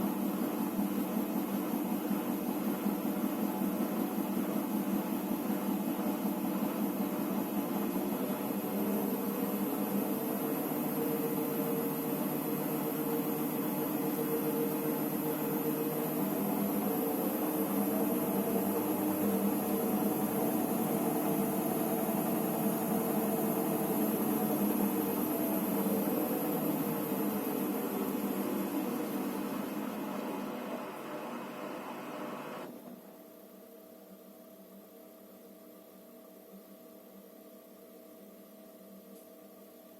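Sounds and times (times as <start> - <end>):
washing machine motor hum: 0.0 - 32.8.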